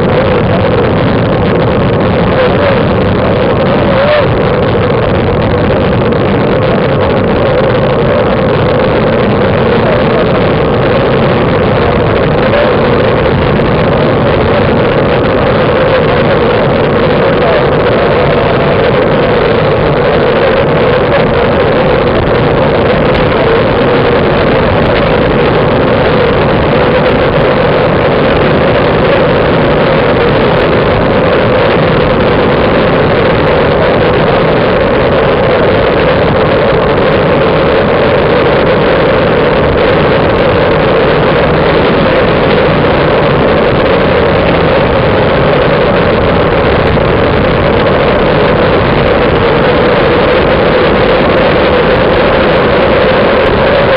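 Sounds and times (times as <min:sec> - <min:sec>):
wind rushing on microphone: 0:00.0 - 0:53.9.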